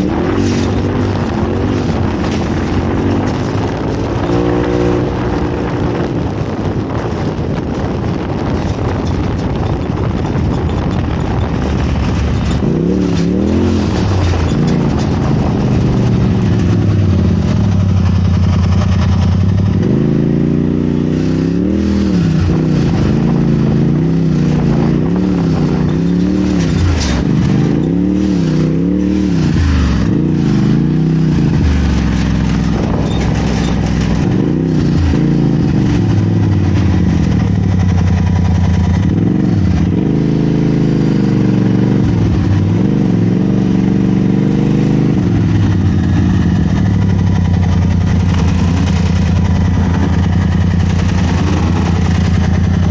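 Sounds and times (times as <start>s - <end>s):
off-road vehicle engine revving: 0.0s - 52.9s.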